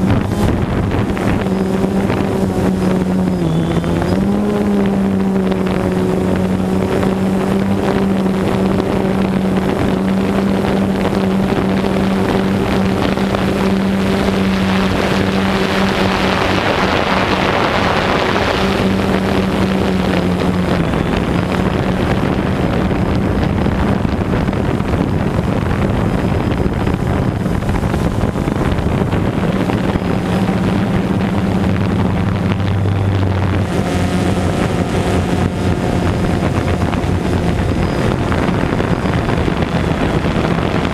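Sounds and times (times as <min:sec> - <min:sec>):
drone propellers buzzing: 0:00.0 - 0:40.9
wind rushing over microphone: 0:00.0 - 0:40.9.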